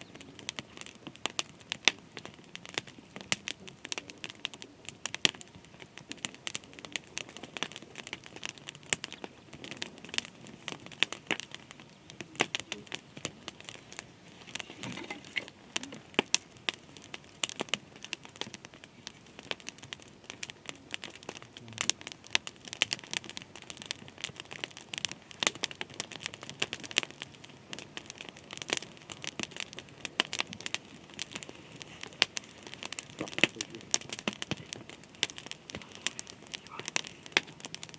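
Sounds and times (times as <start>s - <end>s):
dense crackling and crinkling: 0.0s - 37.9s.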